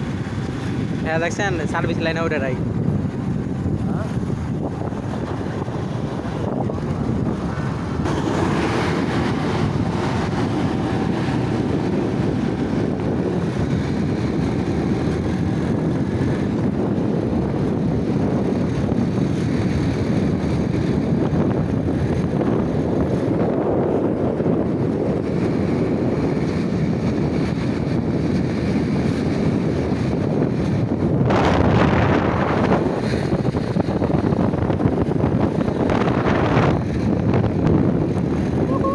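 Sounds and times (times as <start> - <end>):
vehicle rumble: 0.0 - 38.9
wind buffeting microphone: 0.0 - 38.9.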